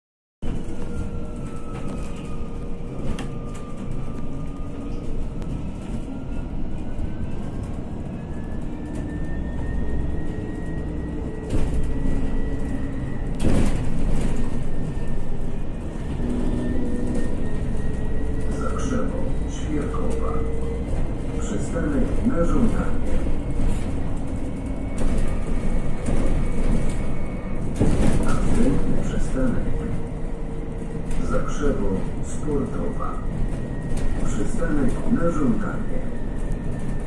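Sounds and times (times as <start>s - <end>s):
bus rattles and knocks: 0.4s - 37.0s
bus rumble with drive whine: 0.4s - 37.0s.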